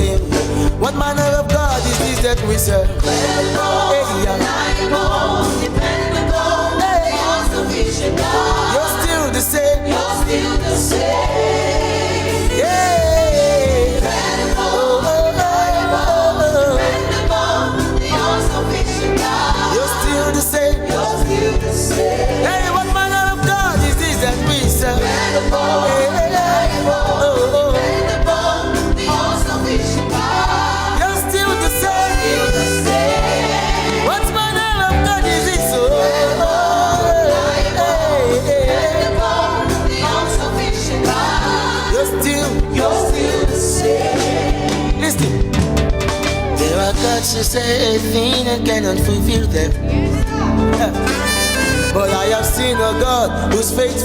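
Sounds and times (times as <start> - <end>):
person singing gospel: 0.0 - 45.5, 46.5 - 54.0
instrumental backing: 0.0 - 54.0.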